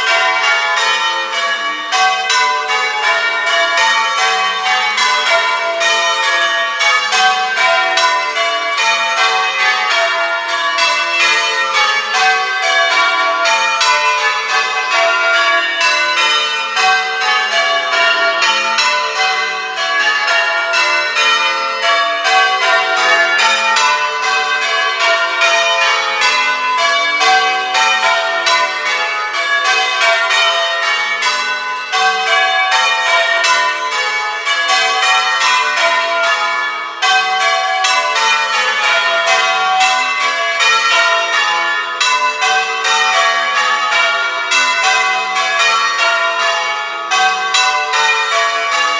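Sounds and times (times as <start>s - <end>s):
church bells change-ringing: 0.0s - 48.9s.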